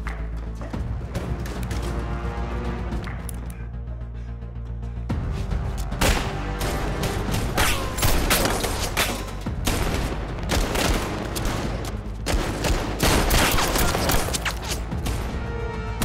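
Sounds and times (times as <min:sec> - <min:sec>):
tense dramatic music: 0:00.0 - 0:16.0.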